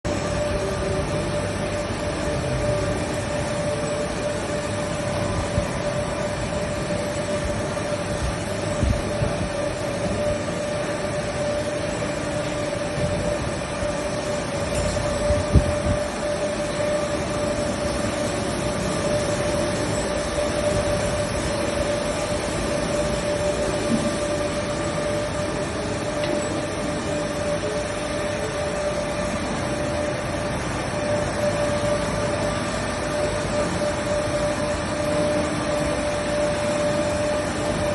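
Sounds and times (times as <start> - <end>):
mechanical hum: 0.0 - 37.9.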